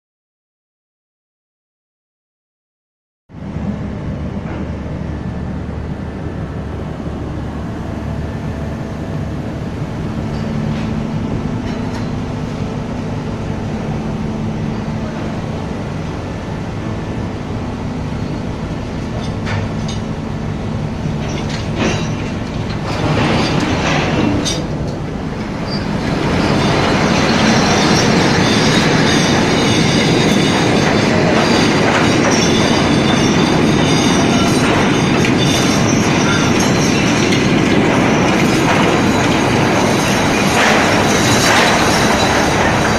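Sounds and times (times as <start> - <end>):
boat machinery rumble: 3.3 - 42.9.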